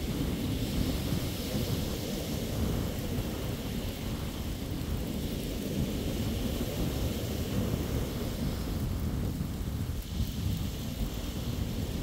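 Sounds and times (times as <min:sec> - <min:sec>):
small waves breaking on sand: 0:00.0 - 0:12.0
wind buffeting microphone: 0:00.0 - 0:12.0.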